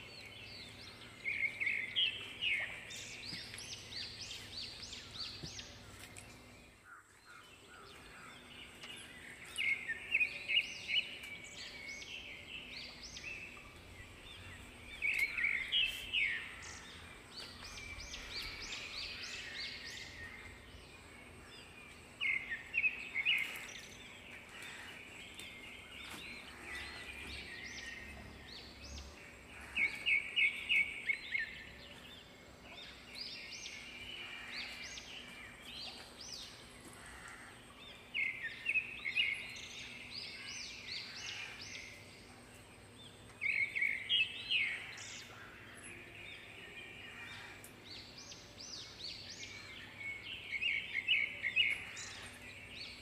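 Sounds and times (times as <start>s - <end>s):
outdoor background hiss: 0.0s - 53.0s.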